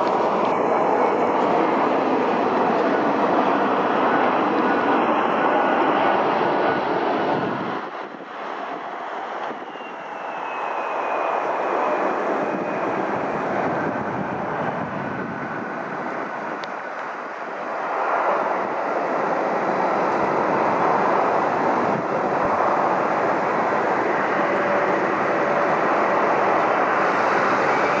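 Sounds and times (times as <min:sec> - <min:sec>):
airliner taxiing: 0:00.0 - 0:28.0
jet engine landing: 0:00.0 - 0:28.0.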